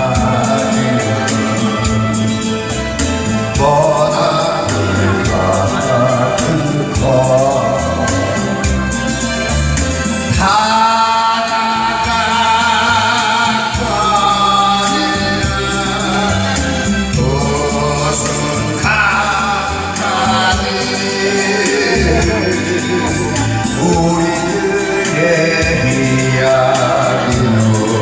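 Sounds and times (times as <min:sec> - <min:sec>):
slow ballad music: 0:00.0 - 0:28.0
stepping bass line: 0:00.0 - 0:28.0.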